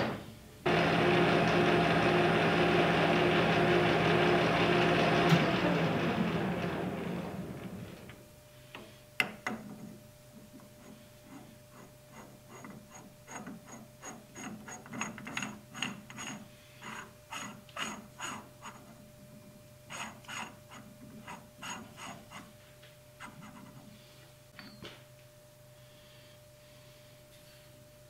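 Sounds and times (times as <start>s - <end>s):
faint steady hum: 0.1s - 28.0s.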